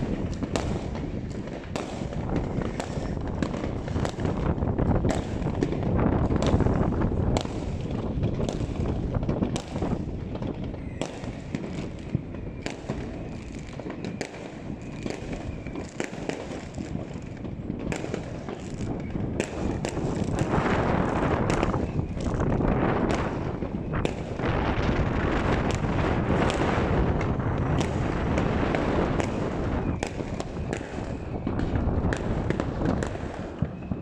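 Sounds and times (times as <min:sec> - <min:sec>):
fireworks barrage: 0:00.0 - 0:34.0.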